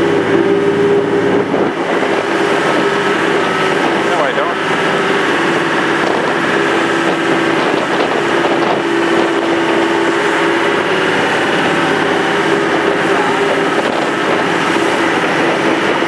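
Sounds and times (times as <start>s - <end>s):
boat engine droning: 0.0s - 16.0s
water rushing: 0.0s - 16.0s
wind noise: 0.0s - 16.0s.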